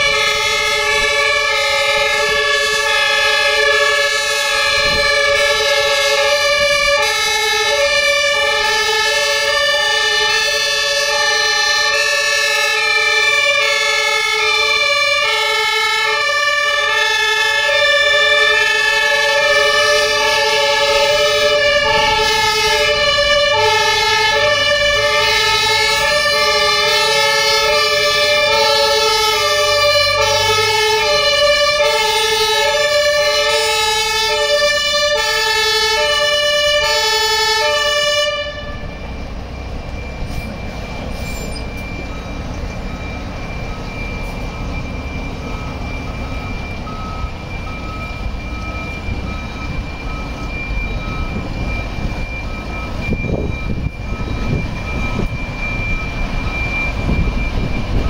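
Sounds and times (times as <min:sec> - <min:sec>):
fire engine two-tone siren: 0:00.0 - 0:58.0.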